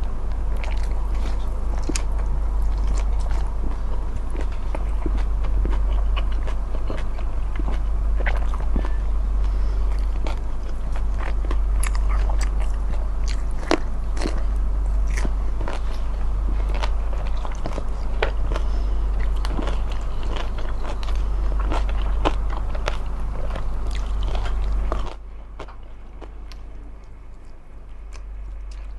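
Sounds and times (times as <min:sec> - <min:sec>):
person biting and chewing food: 0:00.0 - 0:28.9
steady low hum: 0:00.0 - 0:28.9.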